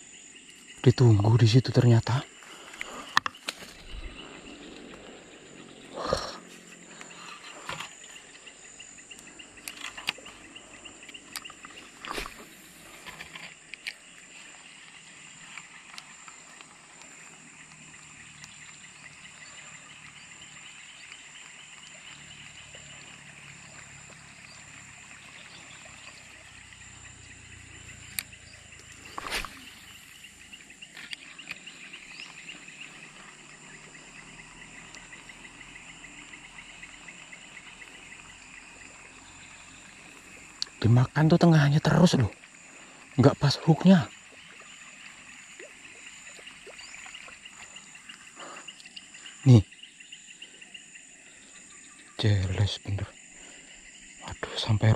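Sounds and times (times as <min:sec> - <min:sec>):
insects chirring: 0:00.0 - 0:54.9.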